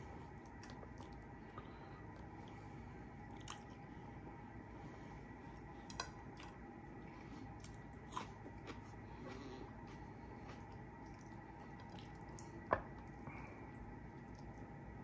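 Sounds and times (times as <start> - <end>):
faint hum: 0.0 - 15.0
man chewing: 0.3 - 3.9, 5.5 - 14.9.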